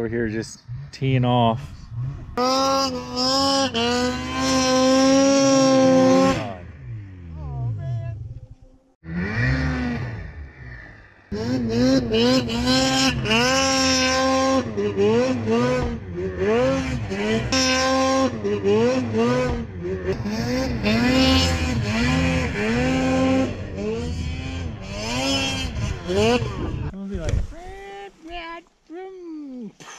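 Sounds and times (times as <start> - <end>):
snowmobile engine revving: 0.0 - 8.3, 9.0 - 26.9.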